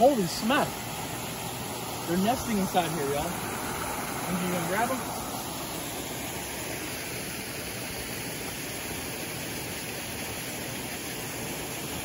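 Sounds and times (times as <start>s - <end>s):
waterfall spilling into pool: 0.0s - 12.0s.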